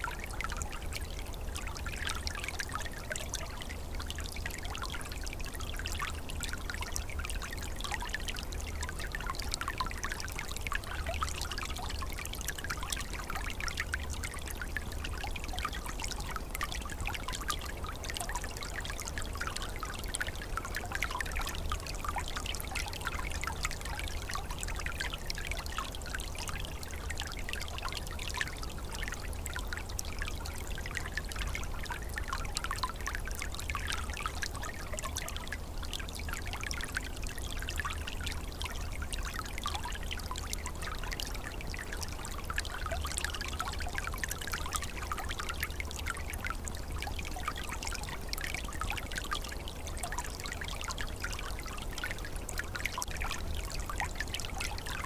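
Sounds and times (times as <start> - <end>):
stream water trickling and gurgling: 0.0 - 55.0.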